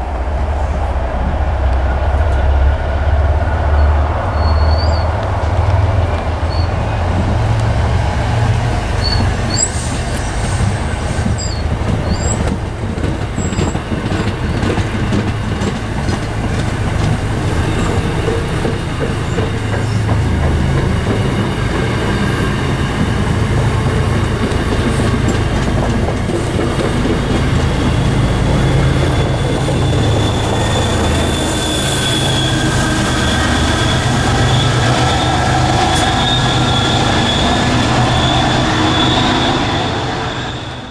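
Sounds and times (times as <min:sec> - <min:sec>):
steel wheels squealing on rails: 0:00.0 - 0:40.9
train rumbling past: 0:00.0 - 0:40.9.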